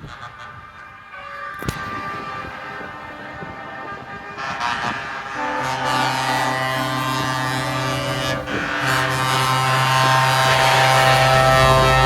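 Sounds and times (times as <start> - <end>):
truck air horns blast: 0.0 - 12.0.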